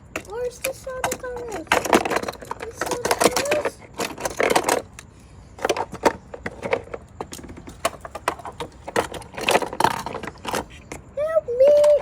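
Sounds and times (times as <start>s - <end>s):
toy trains clicking and scraping: 0.1s - 12.0s.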